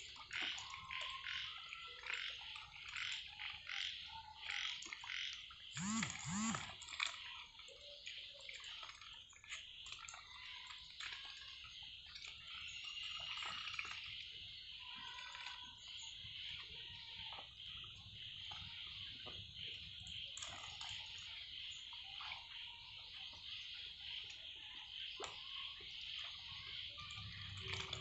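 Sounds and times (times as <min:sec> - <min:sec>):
ducks dabbling in water: 0:00.0 - 0:28.0.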